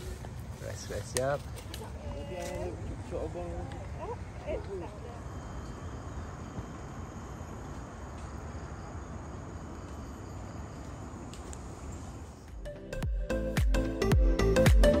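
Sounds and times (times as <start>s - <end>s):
wind rumbling on microphone: 0.0s - 12.6s
faint drone of insects: 0.0s - 13.0s.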